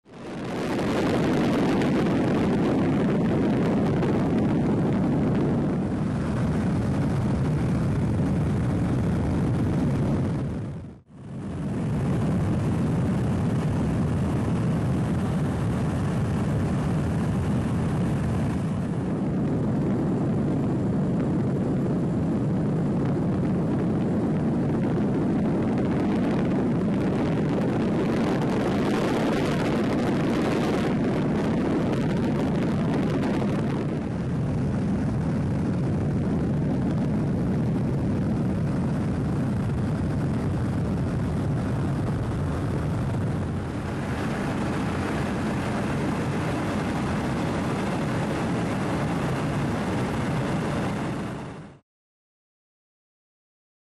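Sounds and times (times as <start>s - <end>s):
aircraft drone in flight: 0.1s - 51.8s.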